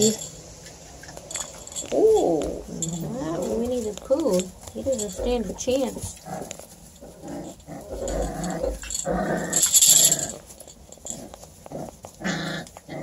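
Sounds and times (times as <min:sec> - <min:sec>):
hissing rustle: 0:00.0 - 0:13.0
puppies growling: 0:01.1 - 0:13.0.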